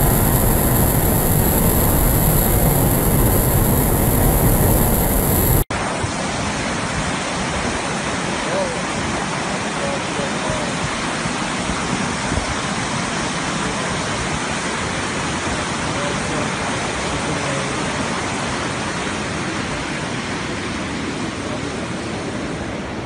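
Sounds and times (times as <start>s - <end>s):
flood water rushing: 0.0s - 23.0s.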